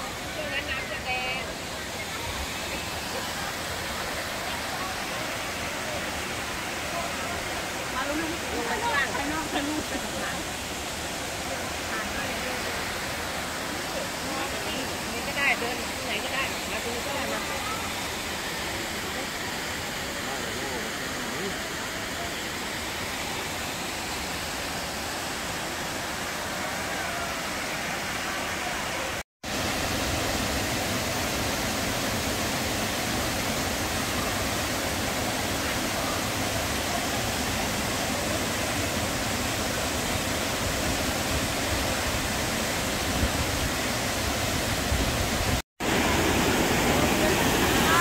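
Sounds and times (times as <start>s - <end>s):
waterfall rushing over rocks: 0.0s - 48.0s.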